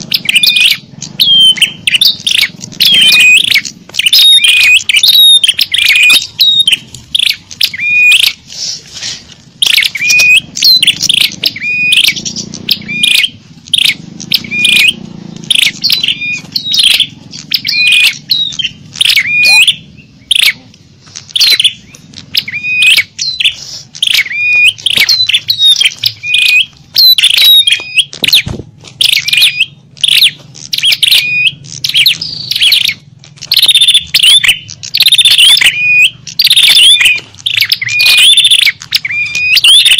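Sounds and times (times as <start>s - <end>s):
songbirds chirping rapidly: 0.0s - 39.9s.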